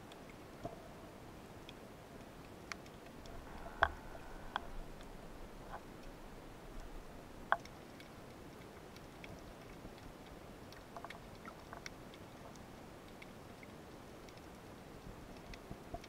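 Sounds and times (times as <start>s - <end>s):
small underwater clicks: 0.0s - 0.9s, 1.6s - 16.0s
low underwater hiss: 0.1s - 16.0s.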